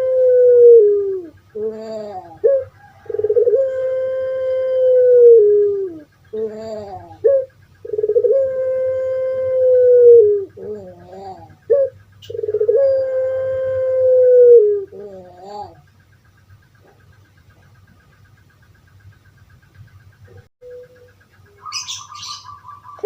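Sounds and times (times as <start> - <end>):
dove cooing: 0.0 - 18.3, 20.2 - 23.0.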